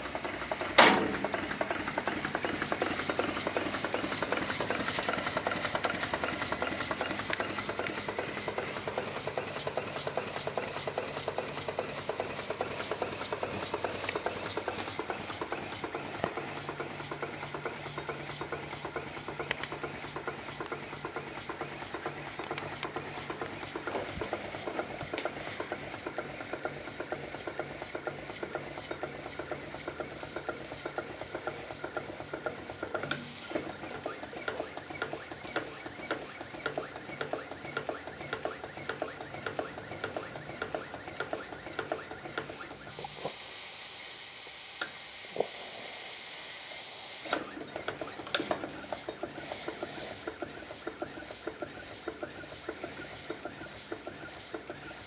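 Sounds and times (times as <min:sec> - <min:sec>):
steam engine knocking: 0:00.0 - 0:43.4, 0:47.3 - 0:55.0
steam hissing: 0:00.0 - 0:55.0.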